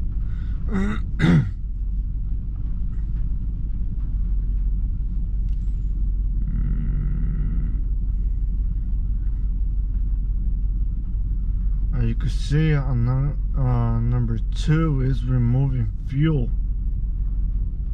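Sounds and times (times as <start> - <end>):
engine idling with low rumble: 0.0 - 17.9.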